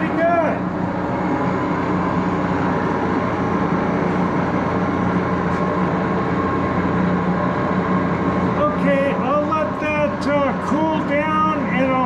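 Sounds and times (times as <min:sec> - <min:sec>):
lathe running drone: 0:00.0 - 0:12.0.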